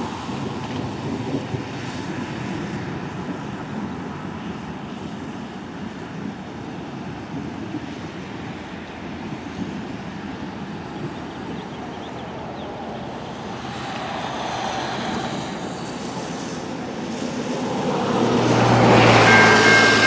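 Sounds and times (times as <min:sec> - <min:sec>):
diesel locomotive engine drone: 0:00.0 - 0:20.0
wind noise on microphone: 0:00.0 - 0:20.0.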